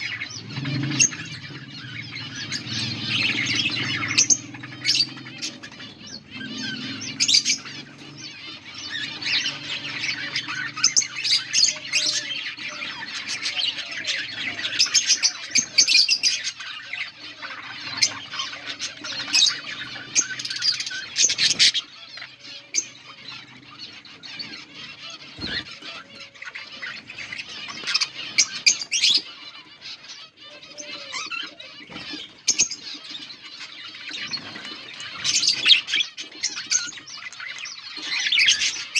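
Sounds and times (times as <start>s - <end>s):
budgerigars chirping and chattering: 0.0s - 38.9s
sharp bird squawks: 0.0s - 38.9s.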